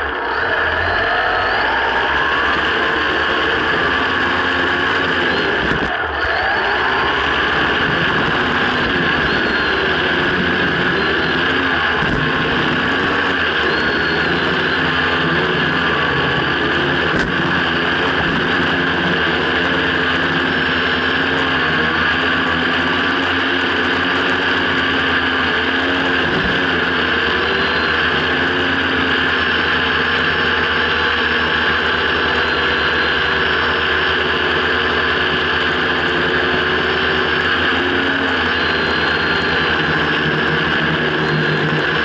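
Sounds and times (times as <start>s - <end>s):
drone propellers buzzing: 0.0s - 42.0s.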